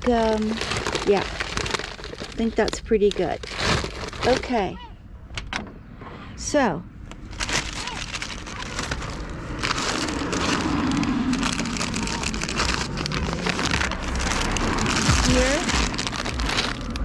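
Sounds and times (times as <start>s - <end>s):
plastic bag rustling: 0.0s - 4.8s, 7.1s - 17.0s.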